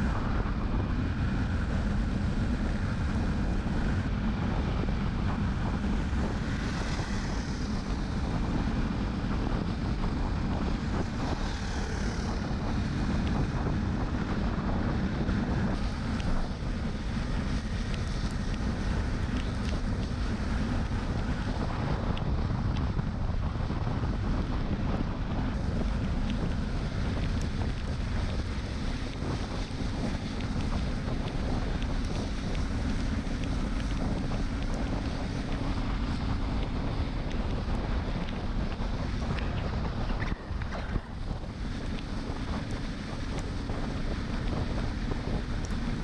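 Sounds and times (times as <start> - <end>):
motorcycle engine drone: 0.0 - 46.0
wind noise on microphone: 0.0 - 46.0.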